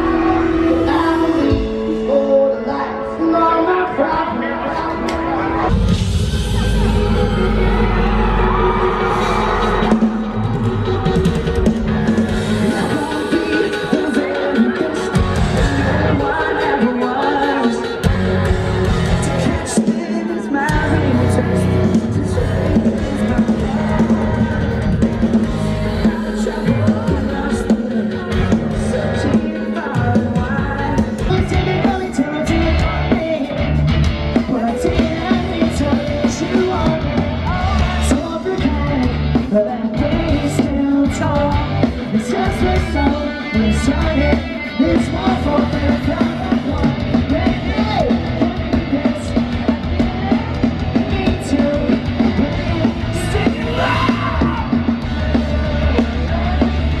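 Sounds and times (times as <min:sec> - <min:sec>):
electric guitar: 0:00.0 - 0:57.0
person singing: 0:00.0 - 0:57.0
drum kit: 0:05.6 - 0:57.0.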